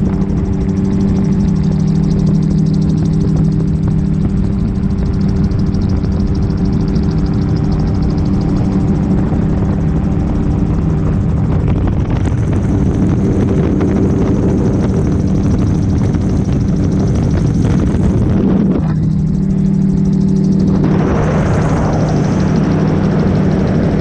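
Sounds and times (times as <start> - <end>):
aircraft engine and propeller drone: 0.0 - 24.0
wind rushing over microphone: 0.0 - 24.0.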